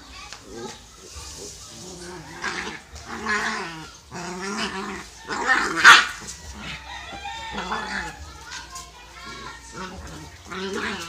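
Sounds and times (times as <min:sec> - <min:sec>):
dogs growling: 0:00.4 - 0:08.4, 0:09.2 - 0:11.0.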